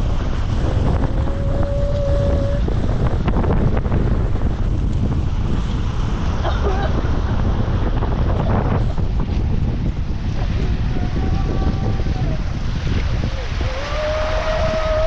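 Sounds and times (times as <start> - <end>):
heavy rain: 0.0 - 15.0
wind buffeting microphone: 0.0 - 15.0.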